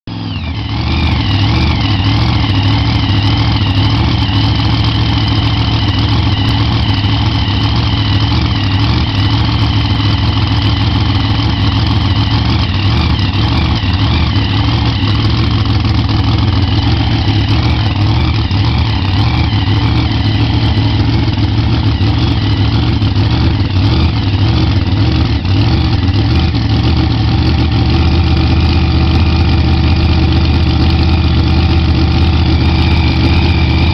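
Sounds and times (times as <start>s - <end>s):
race car engine idling: 0.1s - 33.9s.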